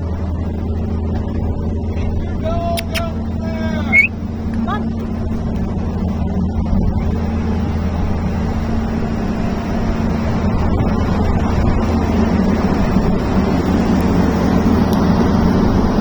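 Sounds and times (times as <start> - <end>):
heavy machine engine humming: 0.0 - 16.0.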